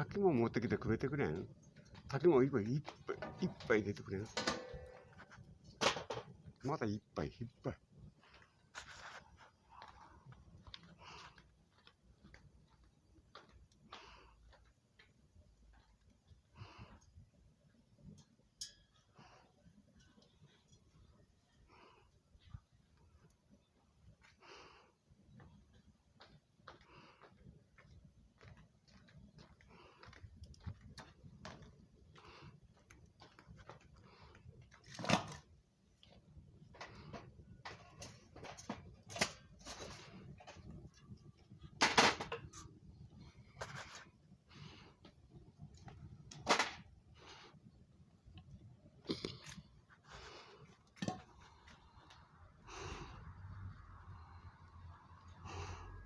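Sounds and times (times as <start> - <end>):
low rumble of fire: 0.0 - 56.0
wood fire crackling: 0.0 - 56.0.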